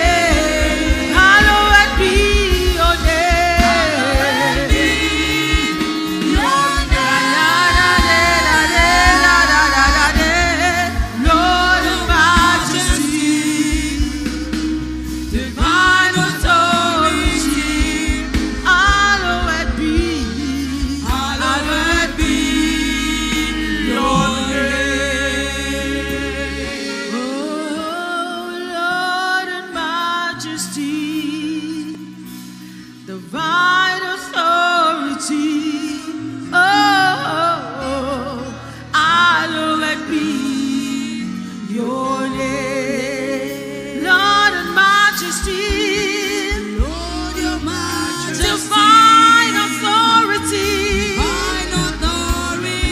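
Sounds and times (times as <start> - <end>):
bass: 0.0 - 52.9
keyboard: 0.0 - 52.9.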